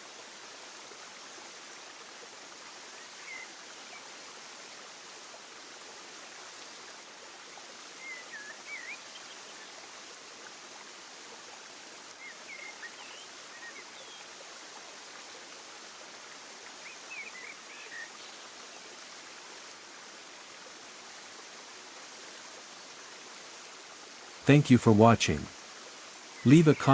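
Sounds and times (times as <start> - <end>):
flowing water: 0.0 - 26.9.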